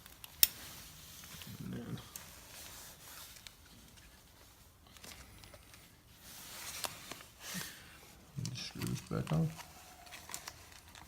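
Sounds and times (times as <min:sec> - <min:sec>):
faint clicks and rustling: 0:00.0 - 0:11.0.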